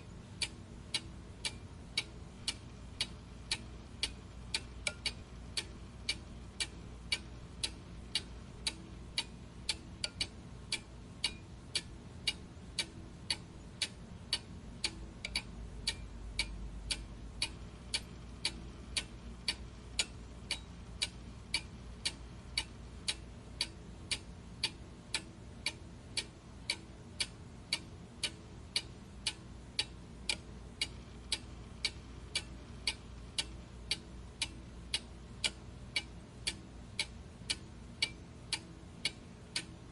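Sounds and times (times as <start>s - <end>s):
clock ticking: 0.3s - 39.8s.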